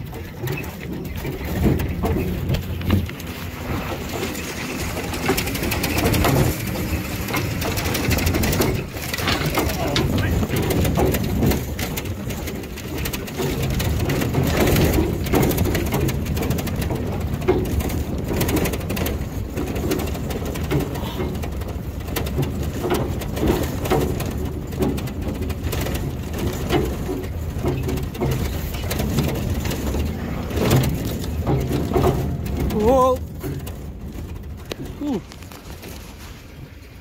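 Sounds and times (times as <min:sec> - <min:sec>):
truck engine rumble: 0:00.0 - 0:37.0
truck knocking and rattling: 0:00.0 - 0:37.0.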